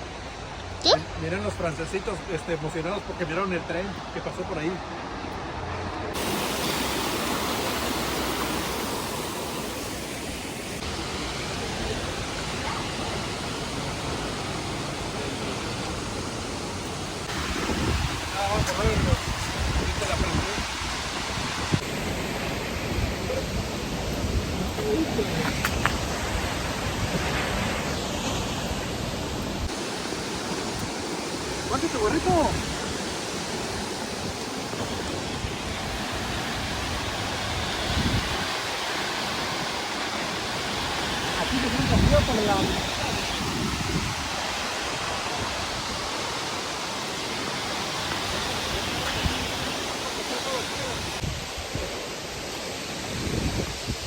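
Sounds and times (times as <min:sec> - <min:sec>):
waterfall rushing: 0:00.0 - 0:54.0
wind gusting on microphone: 0:04.9 - 0:54.0.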